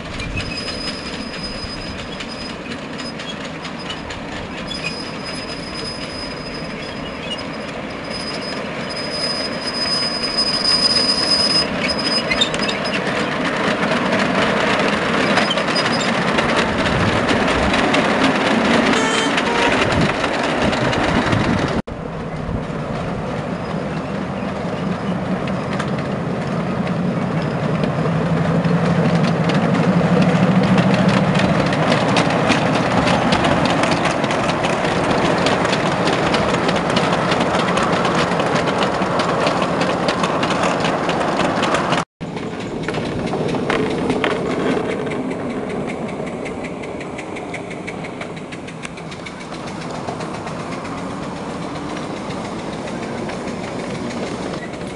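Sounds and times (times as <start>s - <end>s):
miniature train running hum: 0.0s - 54.9s
wheels clicking over rail joints: 0.0s - 54.9s.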